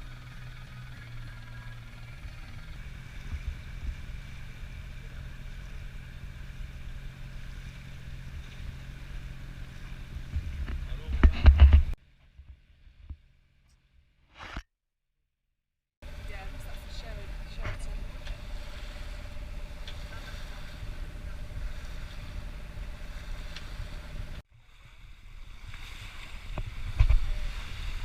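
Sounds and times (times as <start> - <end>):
wind and water noise: 0.0 - 13.2, 16.0 - 28.0
boat engine humming: 0.0 - 13.6, 16.0 - 28.0.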